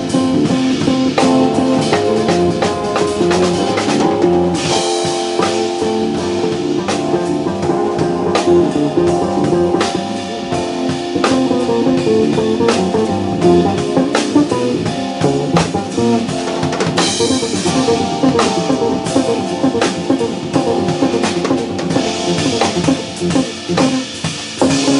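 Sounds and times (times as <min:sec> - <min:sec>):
drum strokes on steady beat: 0:00.0 - 0:24.9
jazz band playing: 0:00.0 - 0:24.9.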